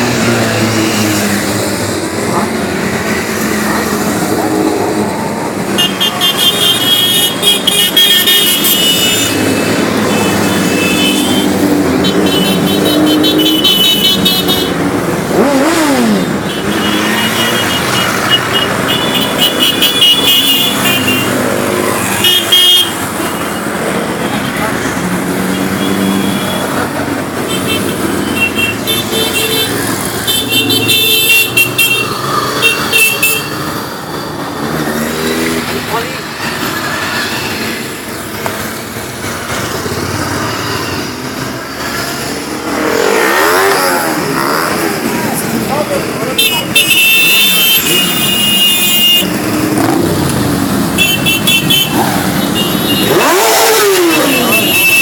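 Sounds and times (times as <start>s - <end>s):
motorcycles running: 0.0s - 55.0s
horns tooting: 2.0s - 38.3s, 42.8s - 55.0s.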